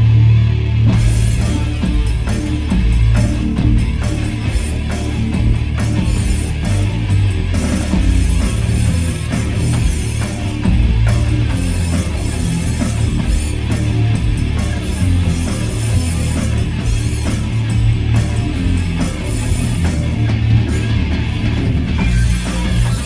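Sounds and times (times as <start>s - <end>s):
live heavy rock band playing: 0.0s - 23.0s.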